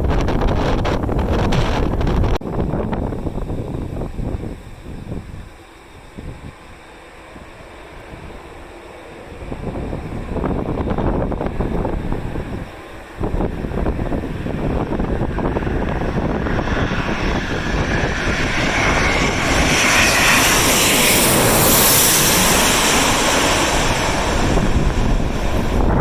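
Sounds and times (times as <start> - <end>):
airliner passing low overhead: 0.0 - 26.0
wind buffeting microphone: 0.0 - 26.0.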